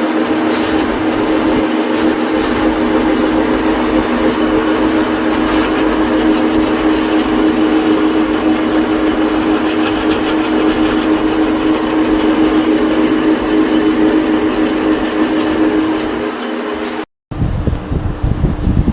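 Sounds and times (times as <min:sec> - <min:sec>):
lathe humming: 0:00.0 - 0:17.0.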